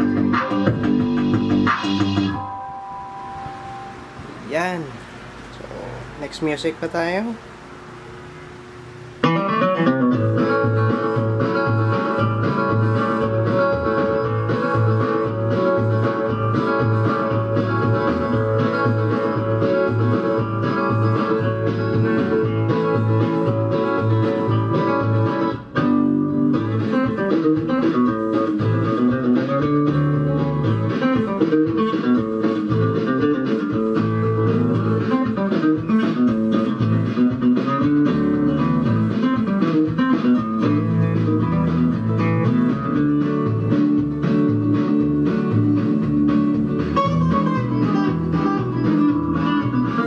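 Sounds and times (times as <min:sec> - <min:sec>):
guitar music through amplifier: 0:00.0 - 0:50.0.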